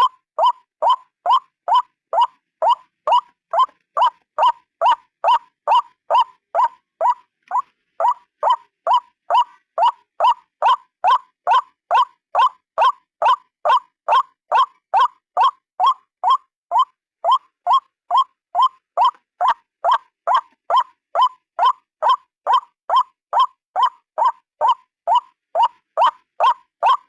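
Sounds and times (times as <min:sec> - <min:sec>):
waterhen repeated call: 0:00.0 - 0:27.0.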